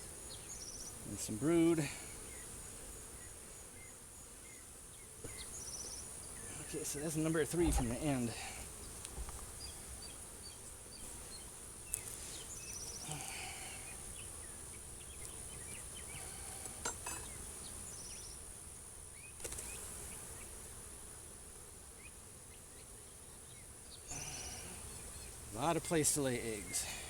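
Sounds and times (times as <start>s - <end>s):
honeybees buzzing: 0.0s - 27.0s.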